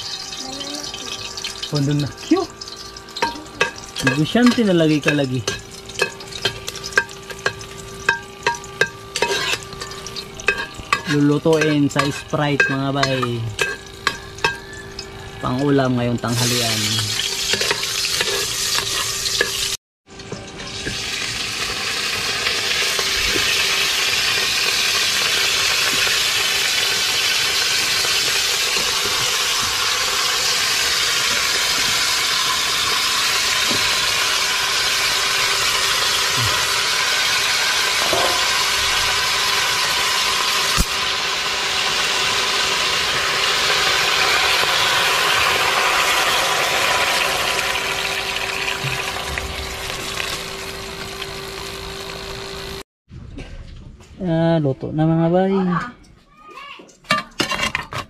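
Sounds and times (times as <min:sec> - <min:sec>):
pot sizzling over wood fire: 0:00.0 - 0:52.8.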